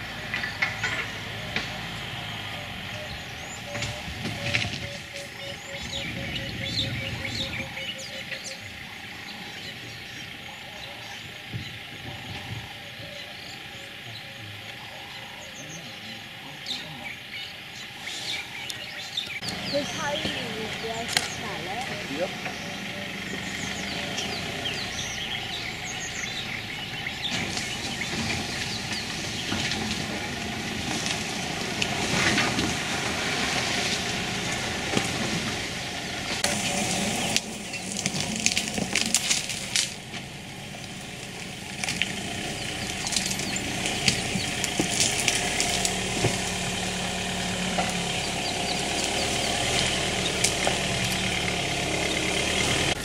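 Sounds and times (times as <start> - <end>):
engine idling hum: 0.0 - 53.0.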